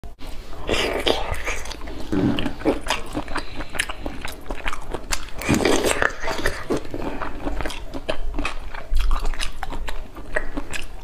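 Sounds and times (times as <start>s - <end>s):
wet chewing with smacks: 0.8s - 11.0s.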